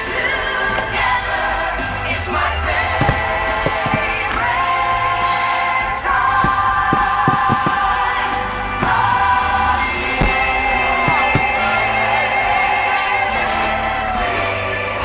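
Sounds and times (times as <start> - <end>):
firework bangs: 0.0 - 13.8
choir with orchestra: 0.0 - 15.0.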